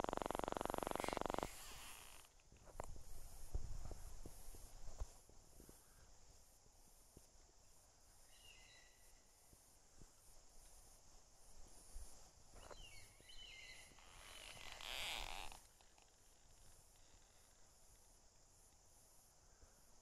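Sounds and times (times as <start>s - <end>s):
faint high hiss: 0.0s - 20.0s
rustle: 0.0s - 20.0s.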